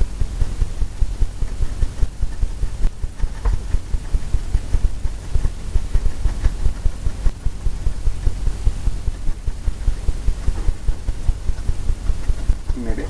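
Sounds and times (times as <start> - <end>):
paintbrush dabbing on canvas: 0.0 - 13.0.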